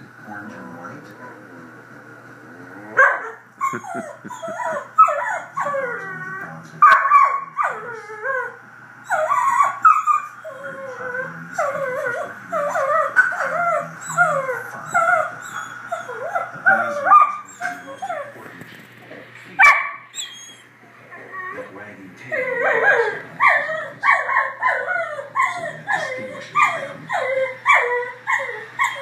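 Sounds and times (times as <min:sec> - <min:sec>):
dog whining and yipping: 0:03.0 - 0:18.4, 0:20.1 - 0:21.7, 0:22.3 - 0:29.0.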